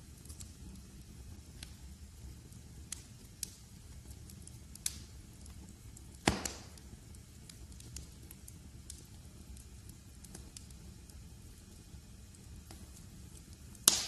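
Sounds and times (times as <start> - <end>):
log fire crackling: 0.0 - 14.0.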